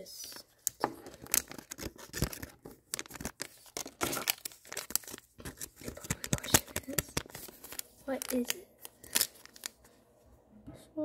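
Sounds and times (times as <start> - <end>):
plastic packaging crinkling: 0.3 - 9.9.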